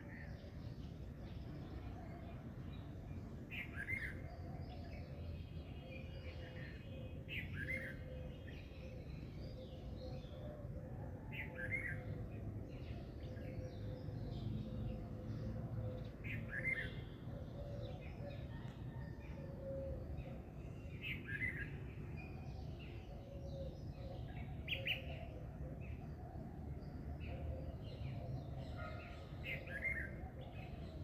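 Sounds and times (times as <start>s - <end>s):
birds chirping and singing: 0.0s - 31.0s.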